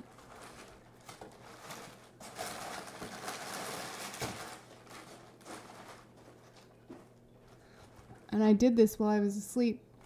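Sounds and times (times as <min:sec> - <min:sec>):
chip bags crinkling: 0:00.0 - 0:08.3.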